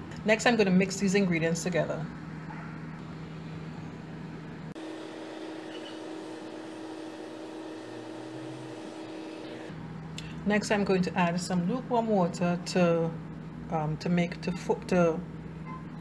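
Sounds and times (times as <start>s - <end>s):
steady hum: 0.0s - 14.4s.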